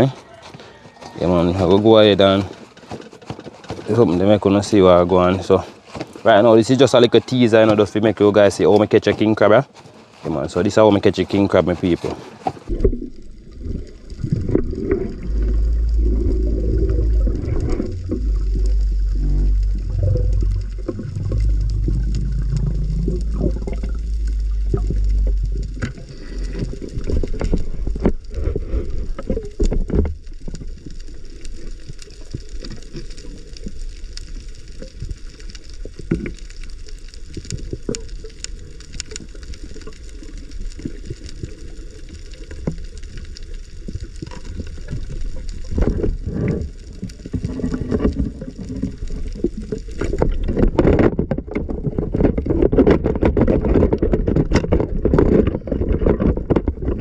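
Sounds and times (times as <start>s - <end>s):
muffled water rushing and sloshing: 11.2s - 57.0s.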